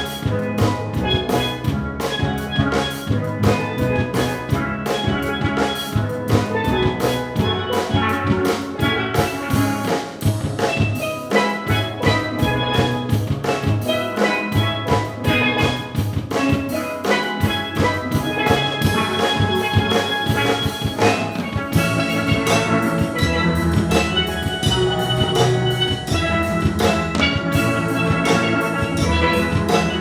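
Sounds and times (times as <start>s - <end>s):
steady drum beat: 0.0s - 30.0s
steel drum ensemble playing: 0.0s - 30.0s.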